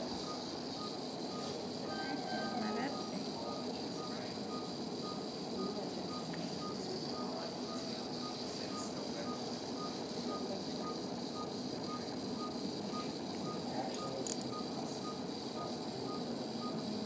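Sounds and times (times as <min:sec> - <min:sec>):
patient monitor beeping: 0:00.0 - 0:17.0.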